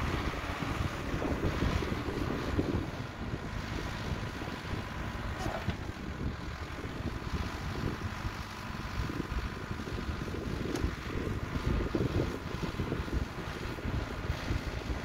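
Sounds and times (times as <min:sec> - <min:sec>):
excavator engine running: 0:00.0 - 0:15.0
wind buffeting microphone: 0:00.0 - 0:15.0.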